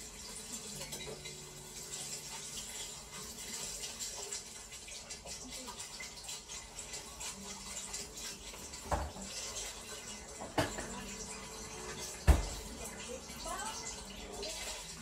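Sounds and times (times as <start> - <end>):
kitchen clatters: 0.2 - 15.0.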